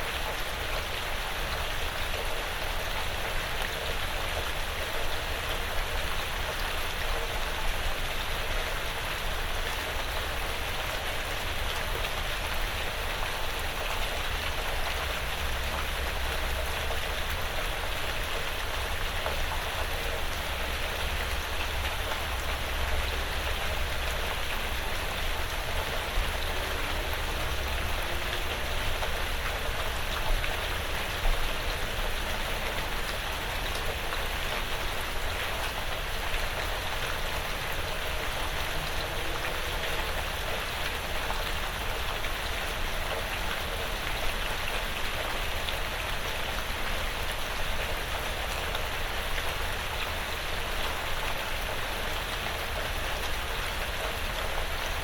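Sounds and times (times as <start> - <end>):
light rain on a roof: 0.0 - 55.0.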